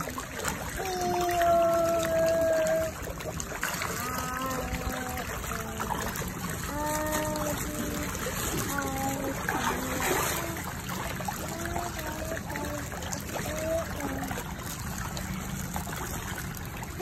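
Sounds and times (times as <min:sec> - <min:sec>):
fish splashing at water surface: 0:00.0 - 0:17.0.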